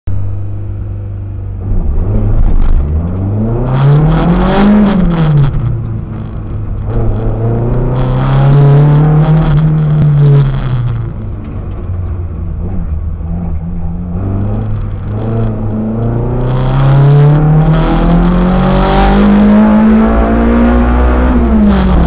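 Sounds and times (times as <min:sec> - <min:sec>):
car engine revving: 0:01.3 - 0:22.0.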